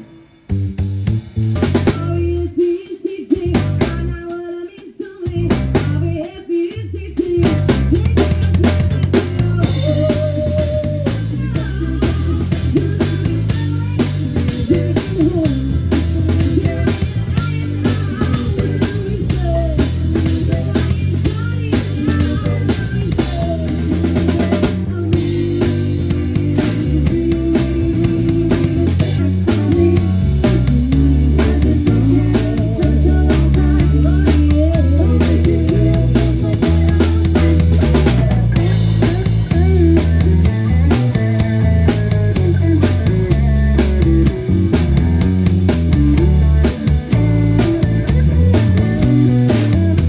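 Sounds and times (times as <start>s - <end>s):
upbeat music with drums and bass: 0.0s - 50.0s.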